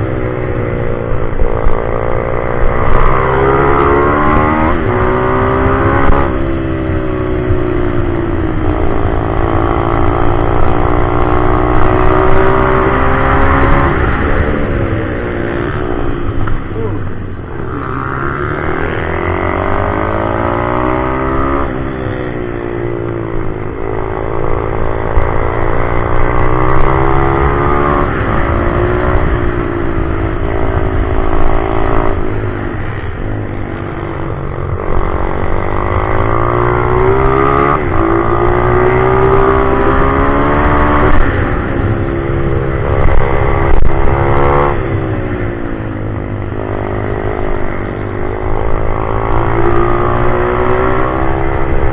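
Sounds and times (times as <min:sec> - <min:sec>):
pit bike engine revving: 0:00.8 - 0:51.9.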